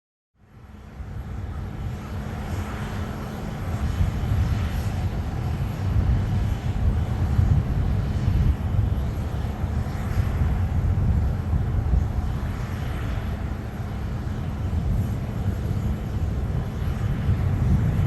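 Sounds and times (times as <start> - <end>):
jet engines rumbling: 0.4 - 18.0.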